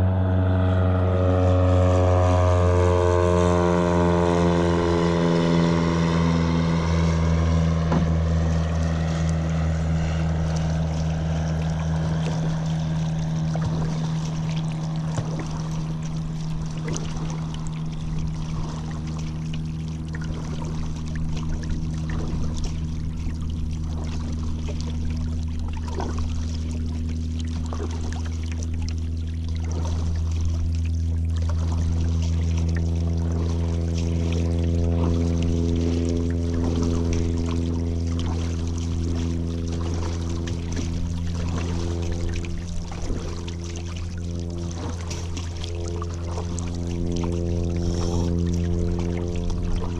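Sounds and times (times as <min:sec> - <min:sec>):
motor droning: 0:00.0 - 0:49.9
paddle water splashes and drips: 0:00.0 - 0:49.9.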